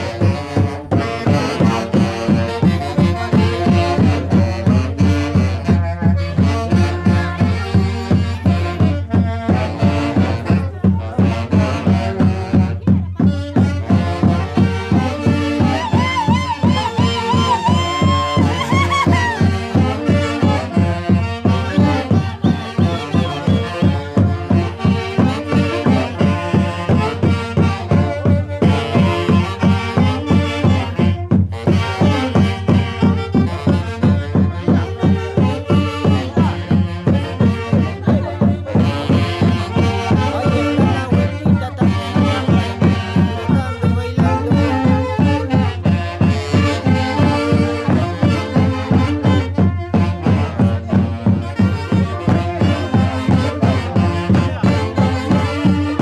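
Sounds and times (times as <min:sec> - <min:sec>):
steady drumbeat: 0:00.0 - 0:56.0.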